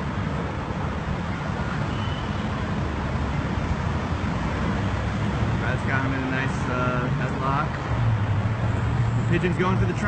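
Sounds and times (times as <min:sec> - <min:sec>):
passing vehicles rumble and hiss: 0:00.0 - 0:10.0.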